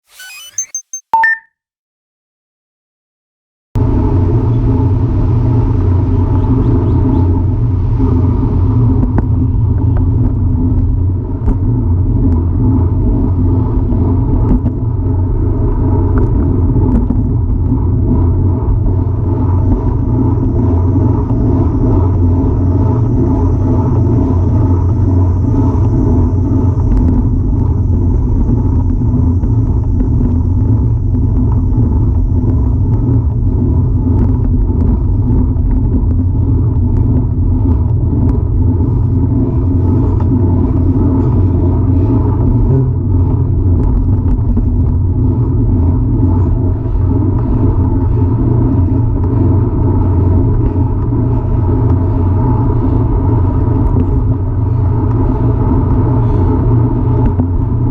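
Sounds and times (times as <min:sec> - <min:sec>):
bicycle road noise: 0:03.8 - 0:57.9
wind rumble on microphone: 0:03.8 - 0:57.9.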